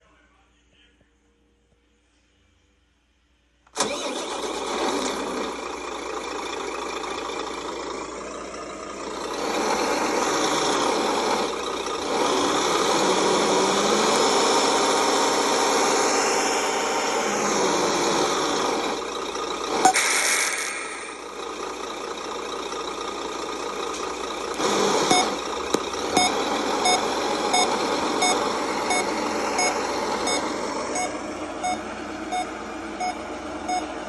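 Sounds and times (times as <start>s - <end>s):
simulated truck engine from speaker: 3.4s - 34.0s.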